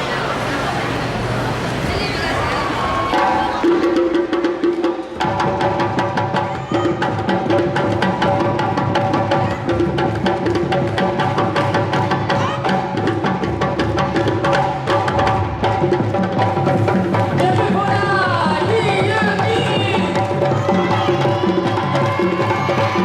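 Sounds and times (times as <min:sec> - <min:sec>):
fast drum rhythm: 0:03.1 - 0:23.0.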